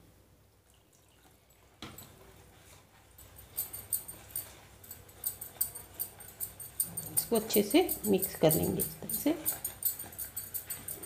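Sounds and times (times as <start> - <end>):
spoon stirring wet batter: 0.7 - 11.0.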